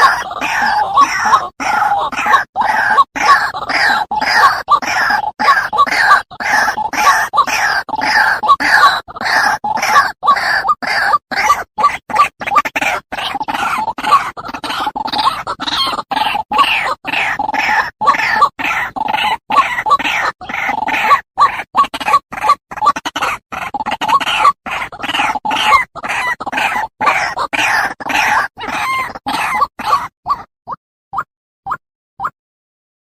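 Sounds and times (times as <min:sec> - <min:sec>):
waterhen harsh repeated calls: 0:00.0 - 0:32.4.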